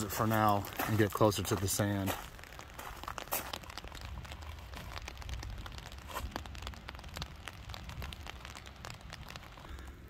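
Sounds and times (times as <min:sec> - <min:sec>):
rain ticking on umbrella: 0:00.0 - 0:10.0.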